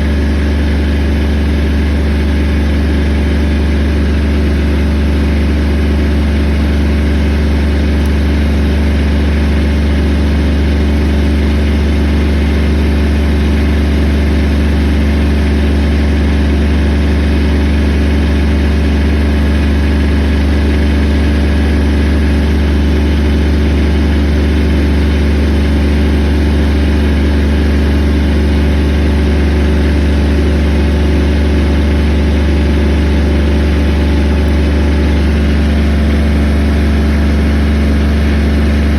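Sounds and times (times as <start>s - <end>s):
engine humming steadily: 0.0s - 38.9s.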